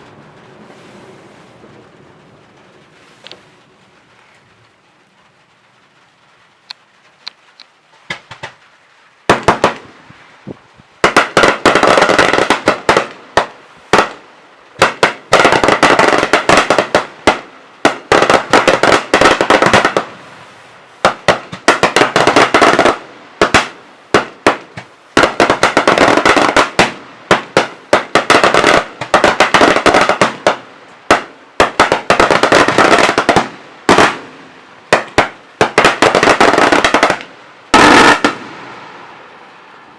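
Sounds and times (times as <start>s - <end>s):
firecracker volleys: 0.0s - 39.9s
firework bangs: 0.0s - 39.9s.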